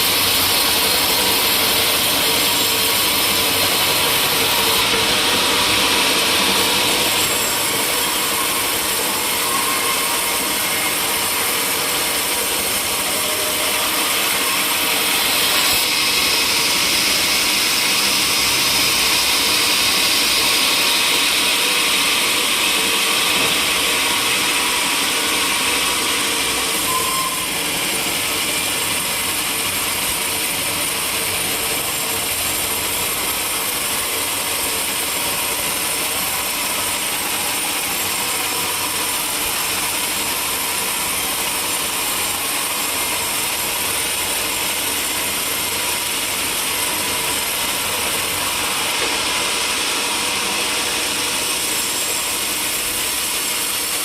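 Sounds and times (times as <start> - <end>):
sawmill saw whine and hum: 0.0 - 54.0.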